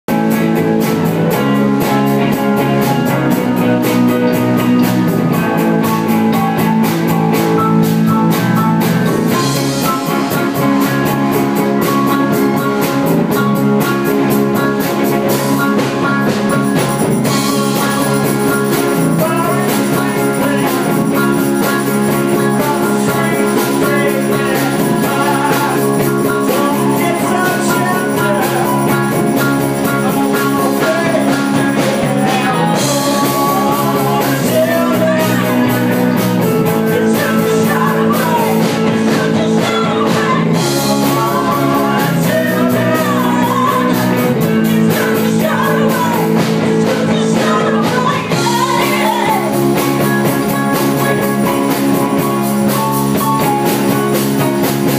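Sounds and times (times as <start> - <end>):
drum kit steady beat: 0.1 - 54.9
live rock band playing: 0.1 - 54.9.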